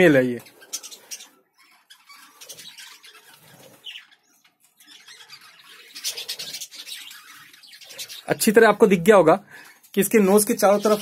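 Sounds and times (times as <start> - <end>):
budgies chirping and squawking: 0.0 - 11.0.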